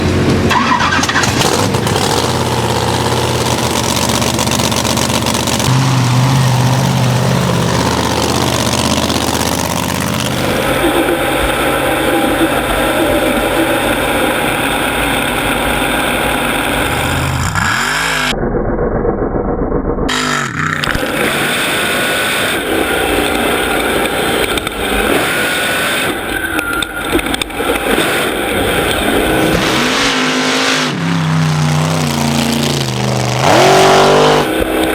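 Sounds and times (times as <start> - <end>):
truck engine revving: 0.0 - 18.4, 20.1 - 34.9.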